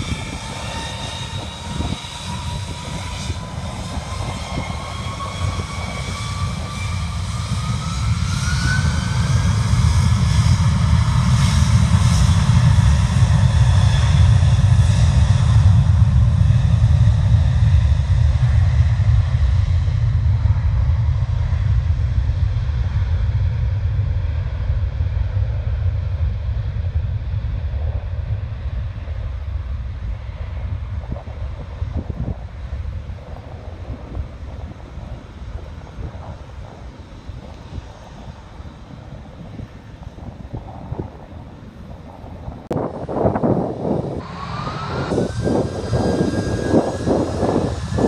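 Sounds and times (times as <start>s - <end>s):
jet engine high whine: 0.0s - 48.0s
jet engines rumbling: 0.0s - 48.0s.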